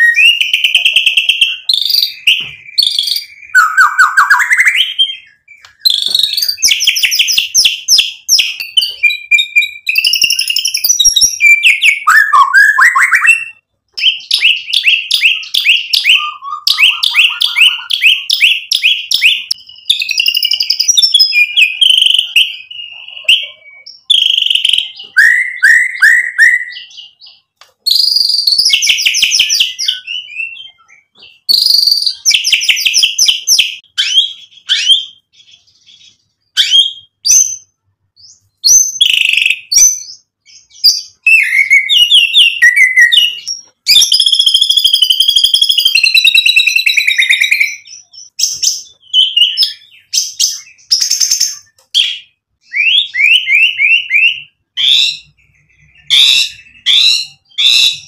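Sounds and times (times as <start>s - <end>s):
songbird singing trills and whistles: 0.0s - 58.0s.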